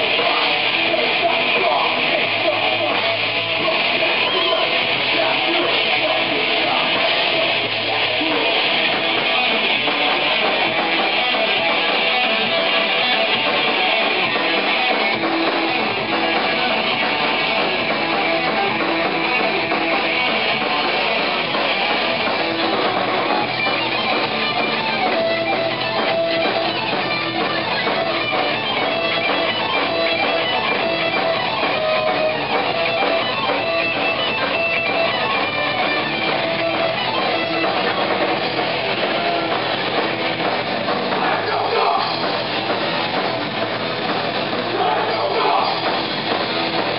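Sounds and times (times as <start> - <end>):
bass guitar: 0.0 - 46.9
distorted electric guitars: 0.0 - 46.9
drums: 0.0 - 46.9.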